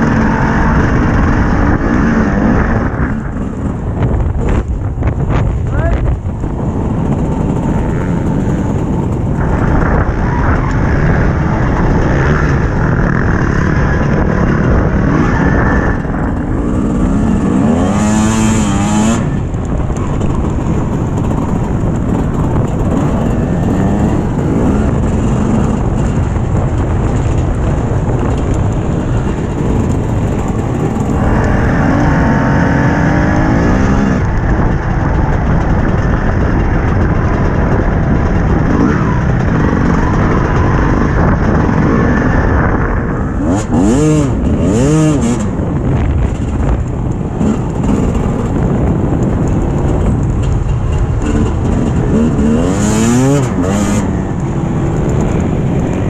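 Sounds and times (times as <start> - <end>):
dirt bike engine revving: 0.0 - 5.9, 6.6 - 56.0
wind rumble on microphone: 0.0 - 56.0.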